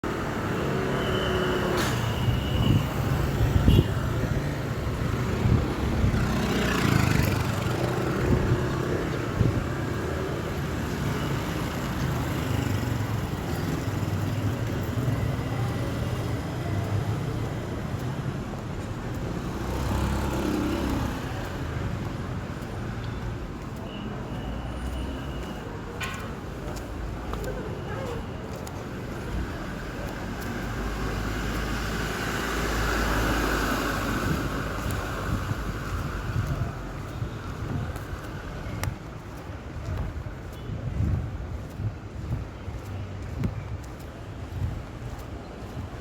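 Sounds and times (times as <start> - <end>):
road traffic rumble: 0.0 - 46.0
vehicles passing: 0.0 - 46.0.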